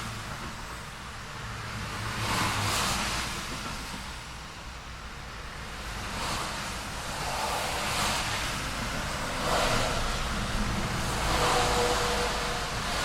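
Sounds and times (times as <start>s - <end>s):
cars passing by: 0.0s - 13.0s
road traffic rumble: 0.0s - 13.0s.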